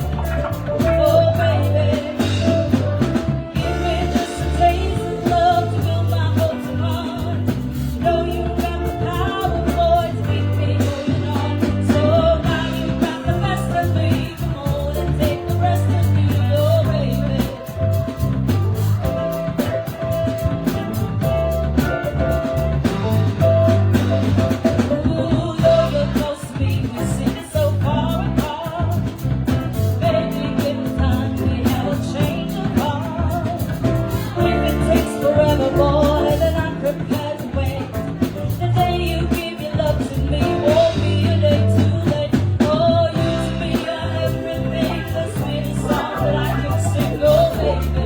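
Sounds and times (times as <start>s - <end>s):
person singing: 0.0s - 22.9s, 24.3s - 48.0s
bass: 0.0s - 48.0s
drum kit: 0.0s - 48.0s
live band music: 0.0s - 48.0s.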